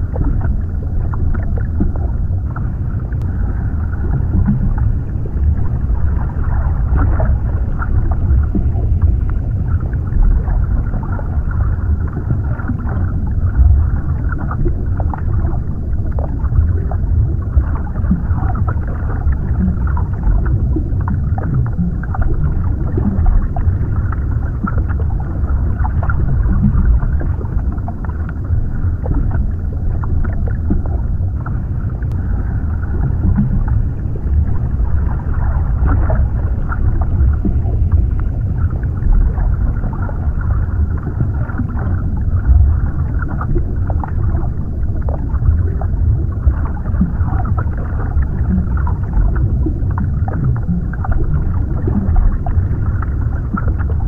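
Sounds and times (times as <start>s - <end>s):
faint crackles and gurgles: 0.0s - 54.0s
muffled underwater rush: 0.0s - 54.0s.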